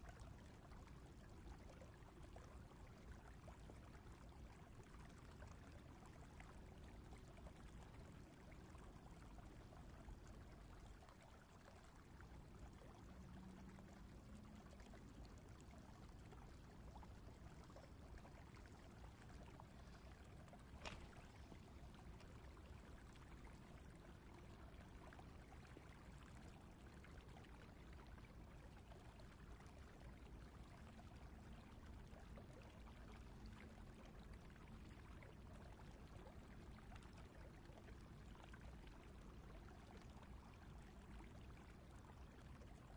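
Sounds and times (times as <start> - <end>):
flowing stream water: 0.0 - 42.9.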